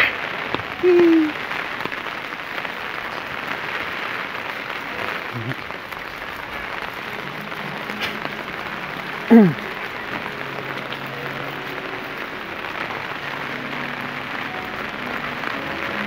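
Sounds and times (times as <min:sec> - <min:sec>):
rain on concrete street: 0:00.0 - 0:16.0.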